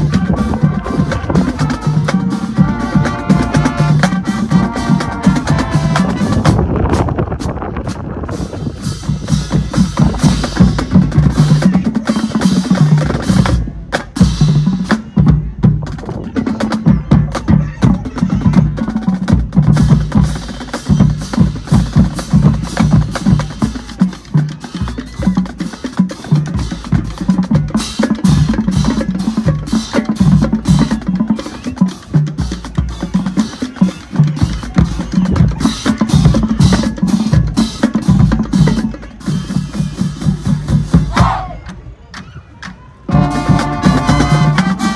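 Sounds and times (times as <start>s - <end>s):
marching band music: 0.0s - 42.2s, 43.0s - 44.9s.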